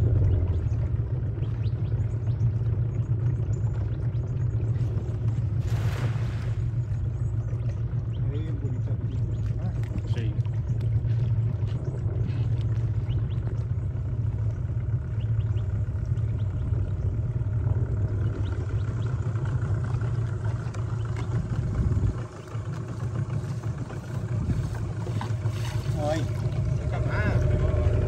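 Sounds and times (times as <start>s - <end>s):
outboard boat motor running: 0.0s - 28.0s.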